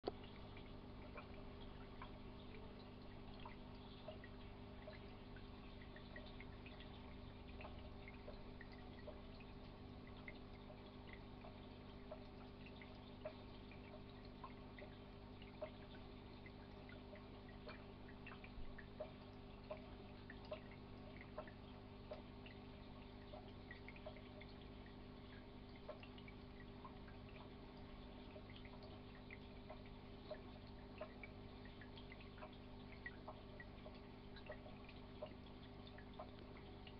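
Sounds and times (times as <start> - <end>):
low hum of tank equipment: 0.0 - 36.9
water dripping and plinking: 0.0 - 36.9.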